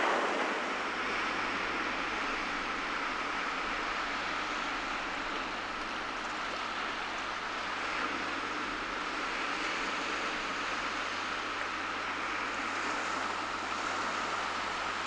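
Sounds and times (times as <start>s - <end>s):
surf waves washing on beach: 0.0s - 15.0s.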